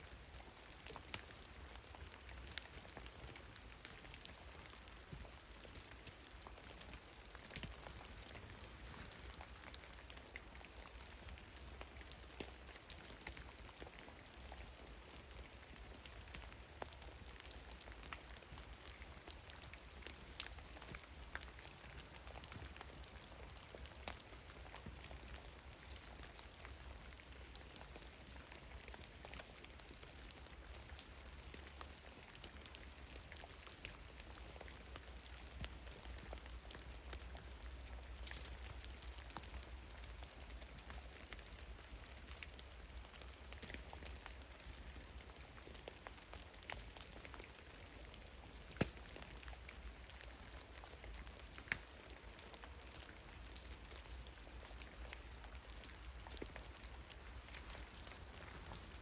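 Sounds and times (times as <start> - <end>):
soft steady hiss: 0.0 - 59.0.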